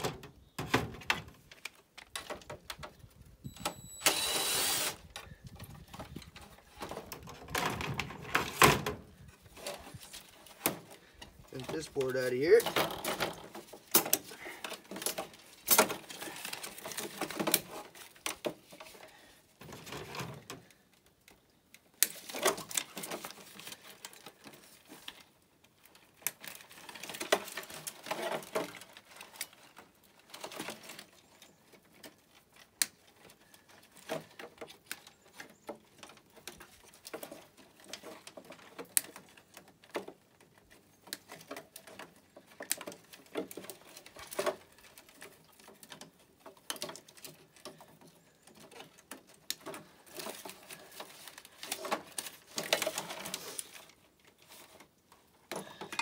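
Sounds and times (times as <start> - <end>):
wires rustling: 4.5 - 20.4, 21.9 - 56.0.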